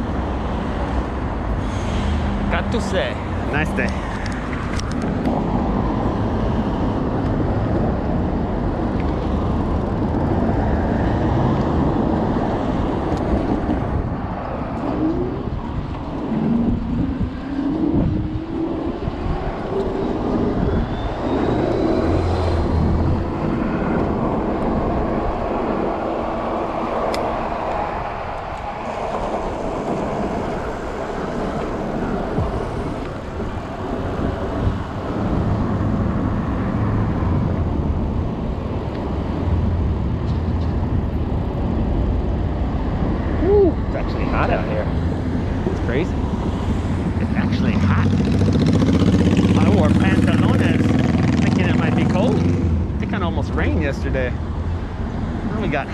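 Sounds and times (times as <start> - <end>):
road noise: 0.0 - 55.9
vehicles passing: 0.0 - 55.9
wind noise: 0.0 - 55.9
vehicle engine climbing in pitch: 8.5 - 40.5, 42.9 - 55.9.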